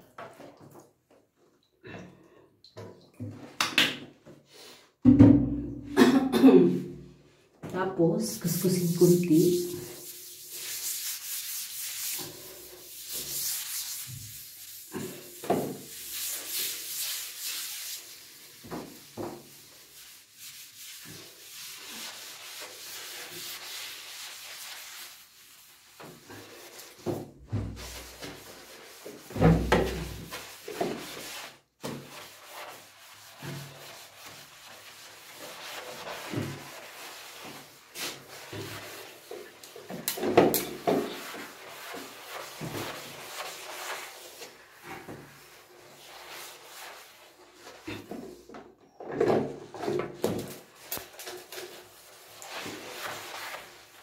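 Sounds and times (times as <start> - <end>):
sponge scrubbing bathtub: 6.2 - 54.0.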